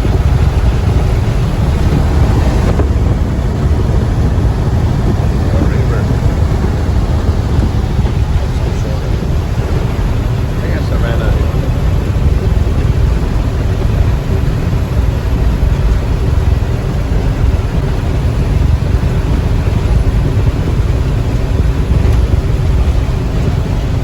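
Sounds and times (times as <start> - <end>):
diesel engine and tyre rumble: 0.0 - 24.0.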